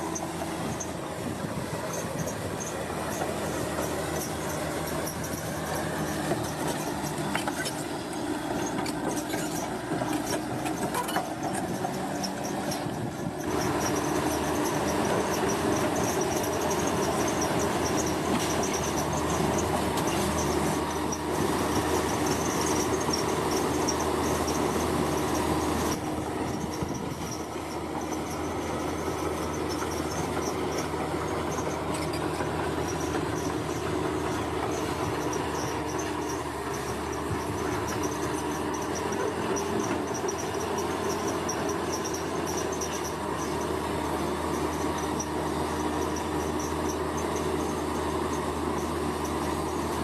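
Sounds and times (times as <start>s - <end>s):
diesel construction machinery drone: 0.0s - 50.0s.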